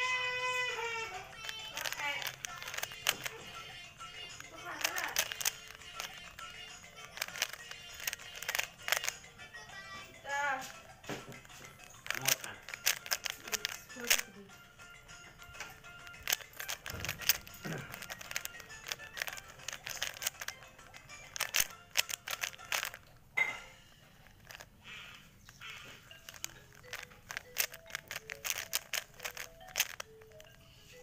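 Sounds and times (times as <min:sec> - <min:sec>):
faint background music: 0:00.0 - 0:31.0
puzzle cube plastic clicking: 0:01.2 - 0:09.3, 0:11.3 - 0:14.4, 0:15.3 - 0:23.2, 0:24.2 - 0:31.0.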